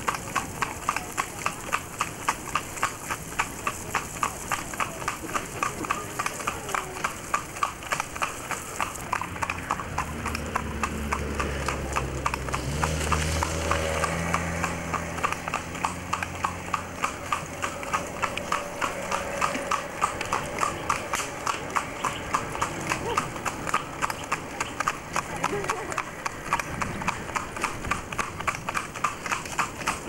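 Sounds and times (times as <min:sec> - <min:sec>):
hooves trotting on tarmac: 0:00.0 - 0:30.0
vehicle engine hum: 0:00.0 - 0:30.0.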